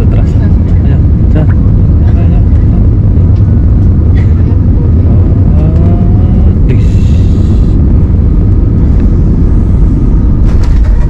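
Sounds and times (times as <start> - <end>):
faint rising whine: 0.0 - 11.0
jet engines and wheels rumbling: 0.0 - 11.0.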